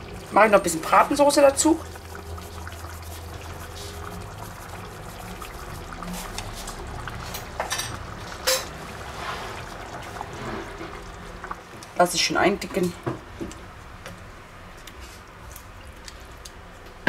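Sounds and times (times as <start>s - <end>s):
sauce simmering in a pan: 0.0s - 16.8s.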